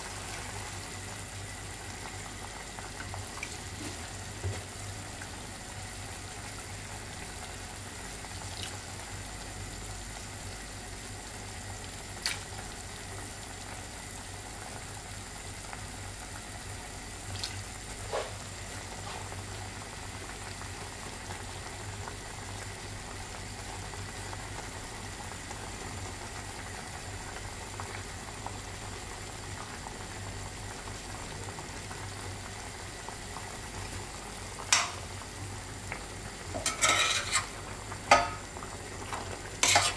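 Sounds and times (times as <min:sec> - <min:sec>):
broth bubbling in a pot: 0:00.0 - 0:39.9.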